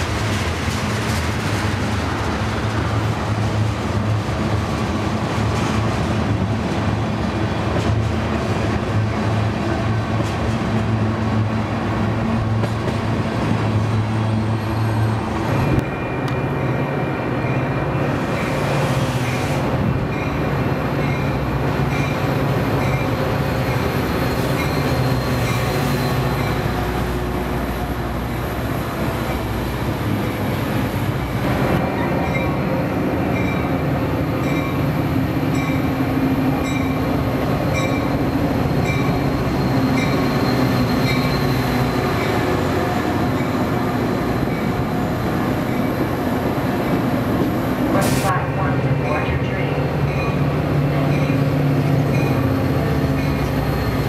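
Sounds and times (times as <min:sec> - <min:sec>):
diesel locomotive: 0:00.0 - 0:54.0
freight train rolling past: 0:00.0 - 0:54.0
train wheels rumbling on rails: 0:00.0 - 0:54.0.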